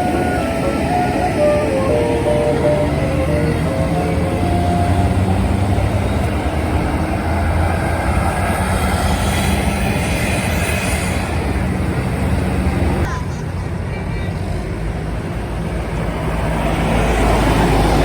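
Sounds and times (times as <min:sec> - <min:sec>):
heavy road traffic passing: 0:00.0 - 0:18.0.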